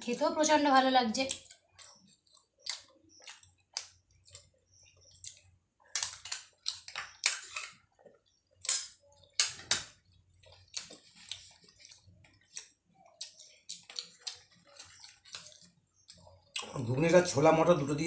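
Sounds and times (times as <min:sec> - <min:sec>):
wet chewing: 0:01.2 - 0:16.8.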